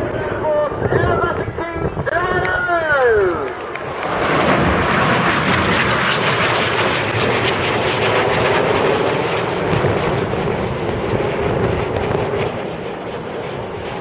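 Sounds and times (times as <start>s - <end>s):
jets flying overhead: 0.0s - 14.0s.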